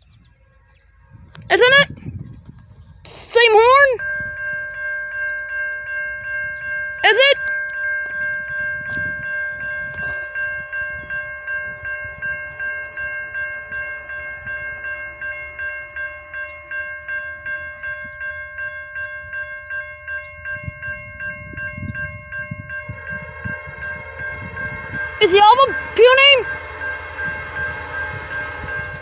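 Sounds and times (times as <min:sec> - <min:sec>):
railroad crossing bell ringing: 0:00.2 - 0:29.0.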